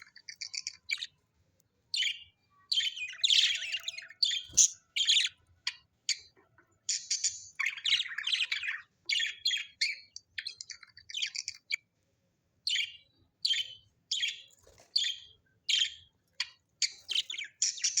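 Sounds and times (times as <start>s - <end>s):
bird chirping: 0.0s - 11.9s, 12.6s - 18.0s.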